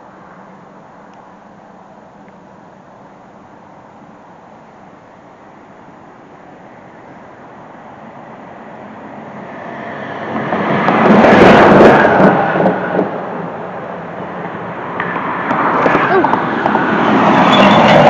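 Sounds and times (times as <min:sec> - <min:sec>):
vehicle passing on highway: 0:00.0 - 0:18.0.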